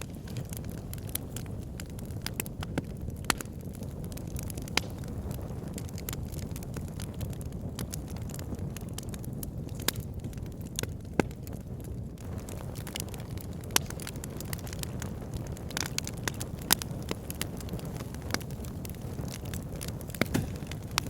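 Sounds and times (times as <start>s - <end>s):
burning logs crackling and popping: 0.0s - 21.0s
low rumble of flames: 0.0s - 21.0s.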